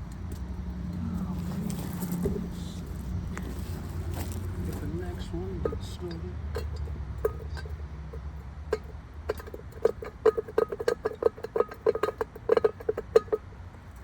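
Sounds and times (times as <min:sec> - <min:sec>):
metal lug nuts clinking: 0:00.0 - 0:14.0.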